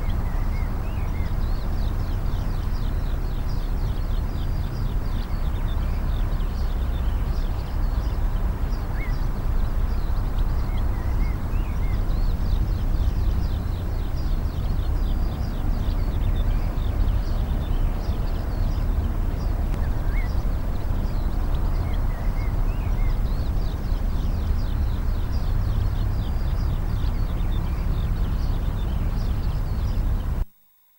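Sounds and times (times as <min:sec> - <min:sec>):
small birds chirping: 0:00.0 - 0:30.5.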